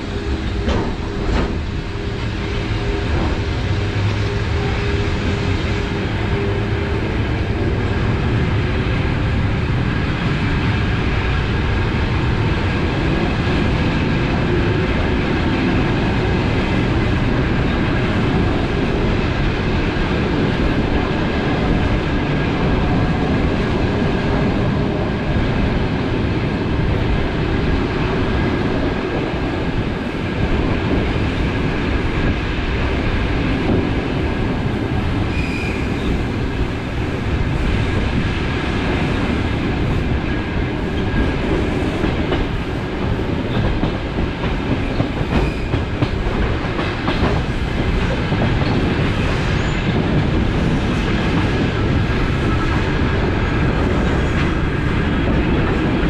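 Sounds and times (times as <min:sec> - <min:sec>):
faint train whine: 0:00.0 - 0:56.0
oncoming train passing: 0:00.0 - 0:56.0
train wheels rumbling on rails: 0:00.0 - 0:56.0.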